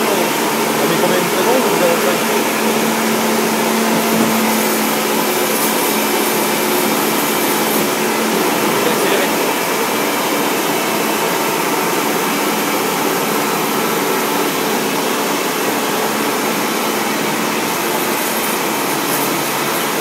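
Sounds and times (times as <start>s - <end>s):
foam-cutting machine whirring: 0.0s - 20.0s.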